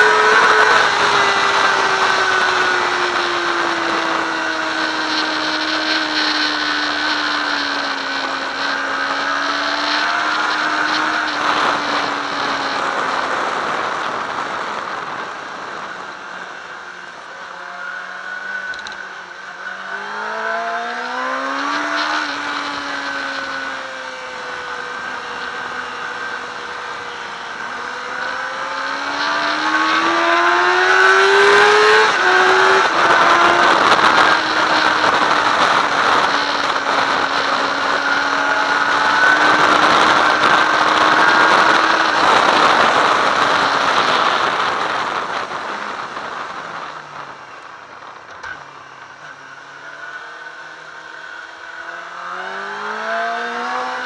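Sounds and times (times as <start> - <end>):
wind rush: 0.0 - 17.4, 20.0 - 48.4
motorcycle engine revving: 0.0 - 54.0.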